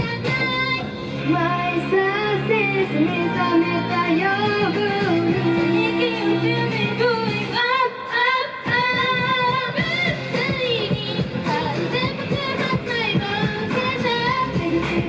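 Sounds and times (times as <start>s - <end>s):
backing track with steady beat: 0.0s - 15.0s
girls singing pop song: 0.0s - 15.0s.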